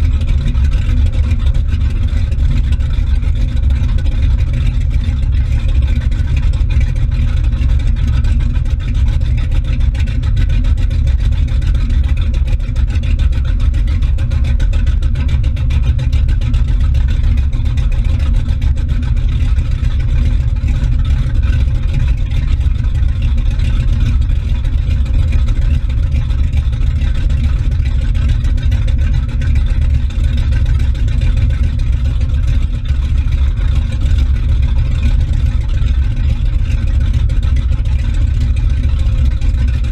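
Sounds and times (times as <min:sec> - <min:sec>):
motorboat engine rumble: 0:00.0 - 0:39.9
water churning in boat wake: 0:00.0 - 0:39.9.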